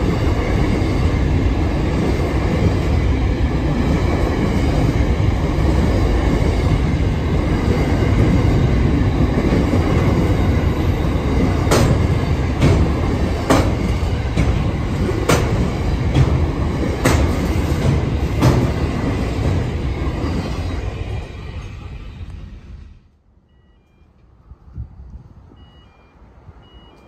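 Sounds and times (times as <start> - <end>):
wheels clacking over rail joints: 0.0 - 21.8
freight train rumbling: 0.0 - 23.2.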